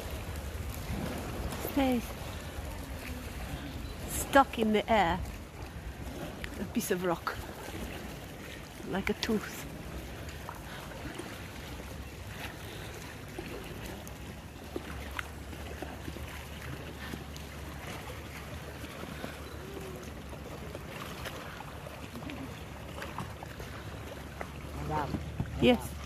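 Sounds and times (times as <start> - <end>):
paddle splashes: 0.0 - 26.0
water lapping: 0.0 - 26.0.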